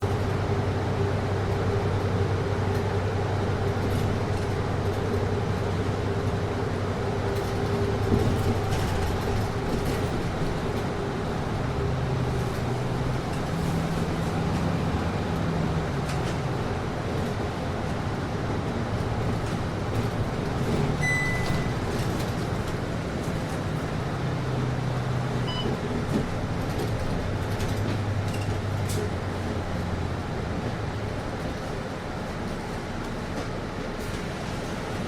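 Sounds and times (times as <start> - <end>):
bus engine drone: 0.0 - 35.0.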